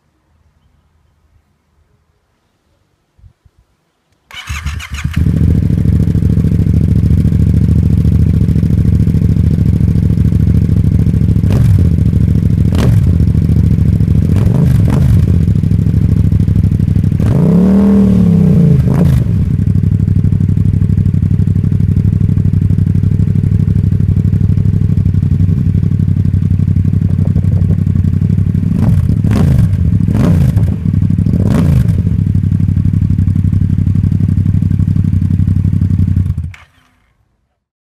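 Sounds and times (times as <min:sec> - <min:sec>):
engine throttle blips and revs: 0:04.3 - 0:37.0
motorcycle engine idling: 0:04.3 - 0:37.1.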